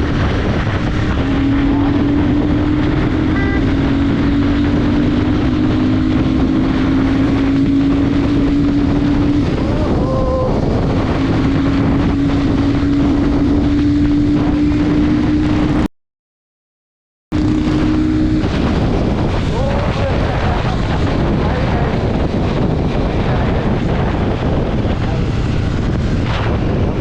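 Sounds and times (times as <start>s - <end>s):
motorcycle engine at high speed: 0.0s - 15.9s, 17.3s - 27.0s
wind noise on microphone: 0.0s - 15.9s, 17.3s - 27.0s.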